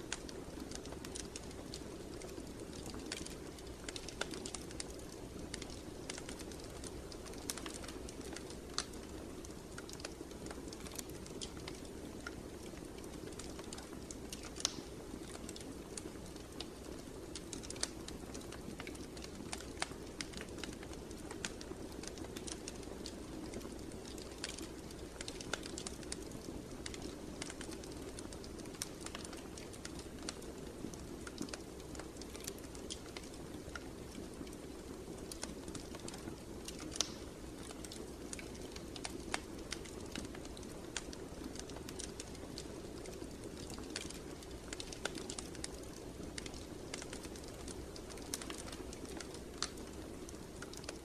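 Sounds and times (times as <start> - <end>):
fire crackling and popping: 0.0 - 51.0
low hiss of flames: 0.0 - 51.0.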